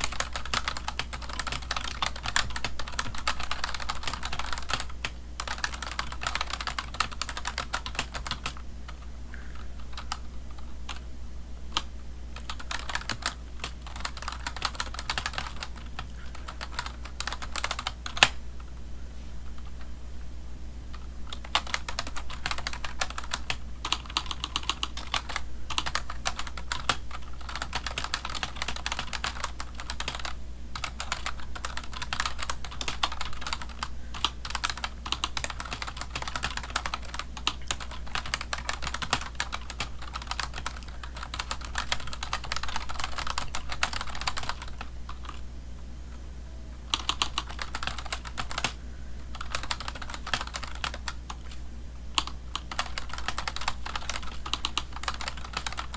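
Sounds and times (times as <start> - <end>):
computer keyboard typing: 0.0 - 9.0, 9.8 - 11.0, 11.7 - 18.7, 20.9 - 45.4, 46.9 - 55.9
steady low hum: 0.0 - 55.9.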